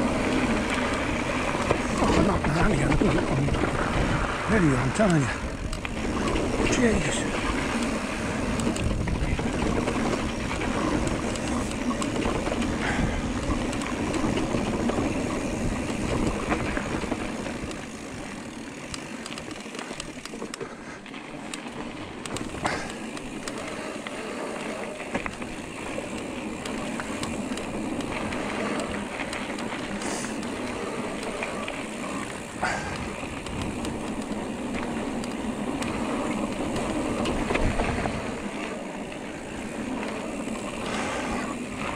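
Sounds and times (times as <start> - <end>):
wind rumbling on microphone: 0.0 - 18.8, 21.8 - 41.9
bike clicks and rattles: 0.0 - 41.9
bike tyre noise: 0.0 - 41.9.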